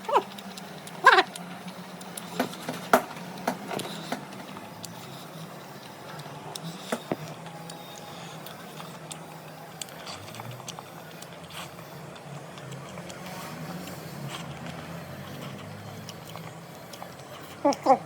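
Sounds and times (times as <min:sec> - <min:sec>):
chewing and mouth smacks: 0:00.0 - 0:02.6, 0:03.3 - 0:18.0
steady low hum: 0:00.0 - 0:18.0.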